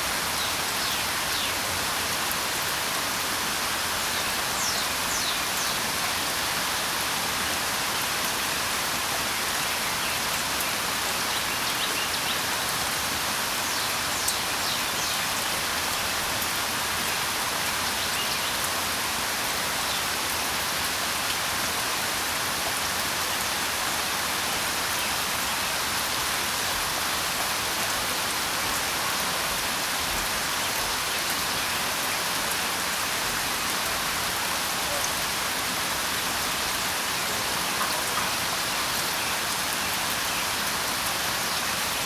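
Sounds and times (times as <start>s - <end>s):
steady rainfall: 0.0s - 42.0s.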